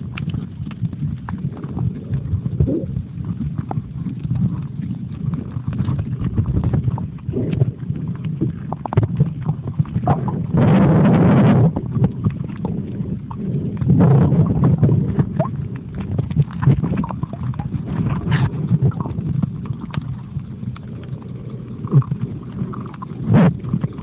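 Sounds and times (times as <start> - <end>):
underwater rumble of moving water: 0.0 - 24.0.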